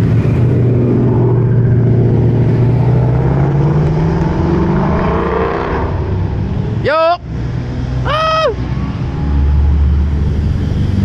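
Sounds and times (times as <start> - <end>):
car engines at low revs: 0.0 - 11.0.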